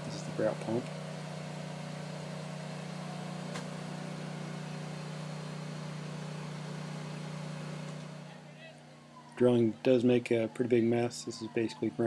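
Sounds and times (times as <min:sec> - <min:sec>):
mixer pump engine drone: 0:00.0 - 0:12.0.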